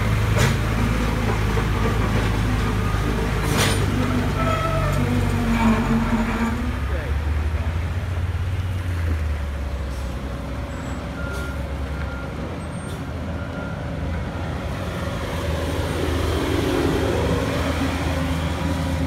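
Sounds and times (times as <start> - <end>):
idling construction machinery hum: 0.0 - 19.0
skid-steer loader engine: 0.0 - 19.0.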